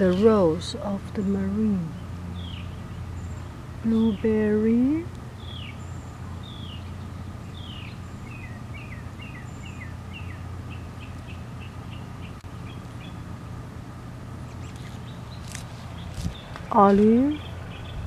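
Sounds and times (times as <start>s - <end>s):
songbird chirping: 0.0s - 13.6s, 14.3s - 18.0s
low background rumble: 0.0s - 18.0s.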